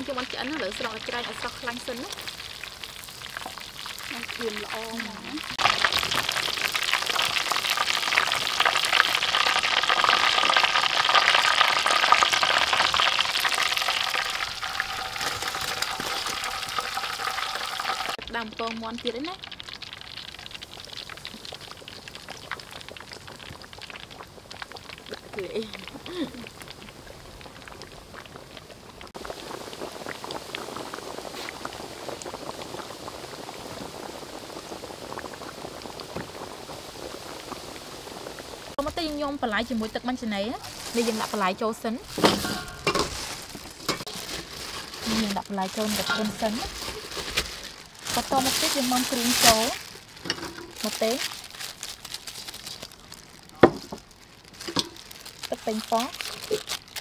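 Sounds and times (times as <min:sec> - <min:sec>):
oil sizzling and crackling: 0:00.0 - 0:57.0.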